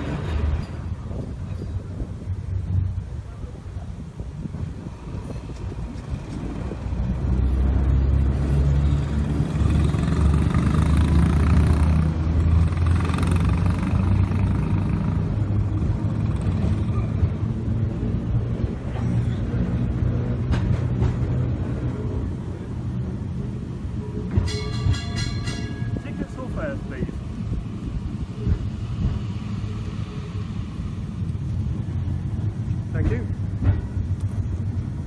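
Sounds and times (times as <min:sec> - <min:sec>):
electric tram hum and rumble: 0:00.0 - 0:35.0.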